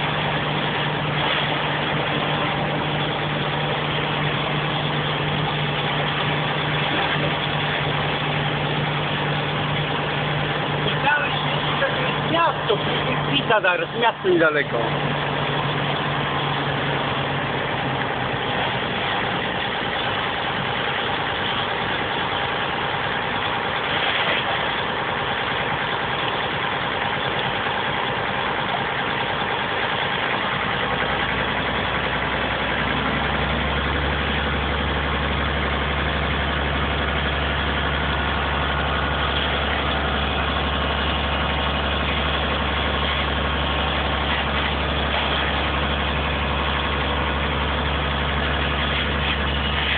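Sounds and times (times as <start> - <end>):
deep low drone: 0.0 - 49.9
vehicle engine idling: 0.0 - 49.9.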